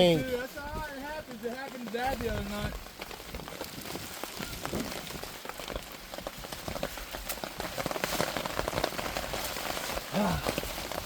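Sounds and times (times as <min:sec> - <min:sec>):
heavy rain with drops ticking: 0:00.0 - 0:11.0.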